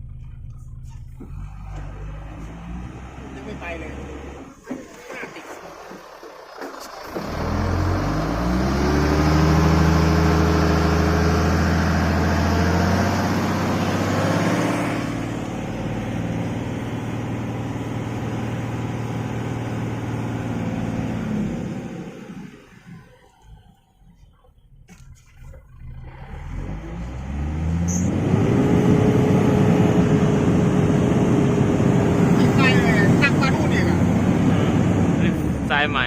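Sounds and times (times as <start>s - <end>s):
truck diesel engine revving: 0.0s - 36.0s.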